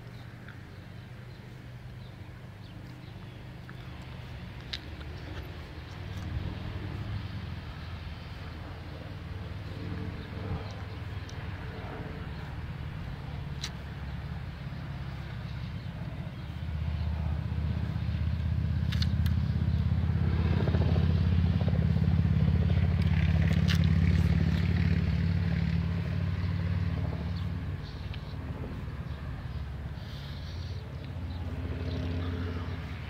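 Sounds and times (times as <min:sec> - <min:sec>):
low engine rumble: 0:00.0 - 0:33.0.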